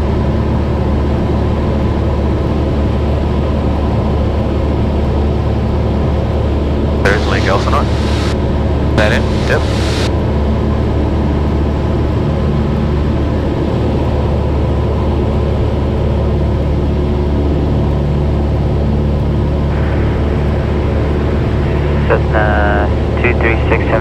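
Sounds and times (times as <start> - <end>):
airplane engine and propeller droning: 0.0 - 24.0.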